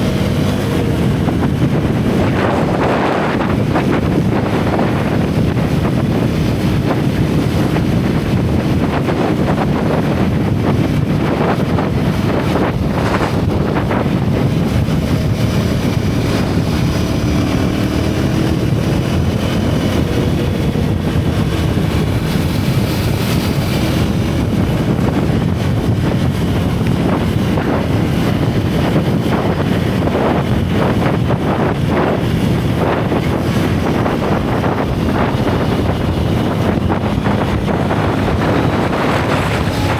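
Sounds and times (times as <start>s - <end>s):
motorcycle engine and exhaust: 0.0s - 39.9s
wind buffeting microphone: 0.0s - 39.9s.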